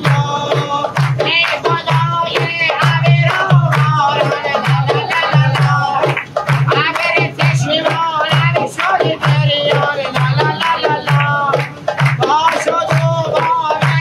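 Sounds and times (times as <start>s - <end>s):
goblet drum beat: 0.0s - 14.0s
hand clapping: 0.0s - 14.0s
men singing together: 0.0s - 14.0s.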